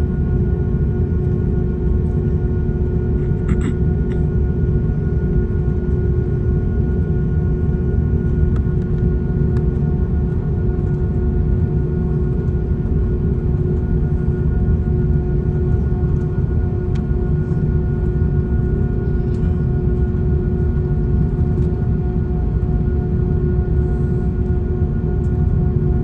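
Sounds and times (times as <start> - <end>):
jet engines rumbling in cabin: 0.0 - 26.0.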